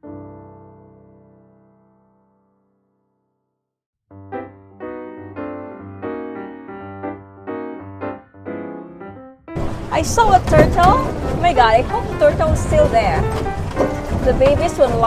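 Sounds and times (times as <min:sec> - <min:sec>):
piano music: 0:00.0 - 0:03.4, 0:04.1 - 0:15.0.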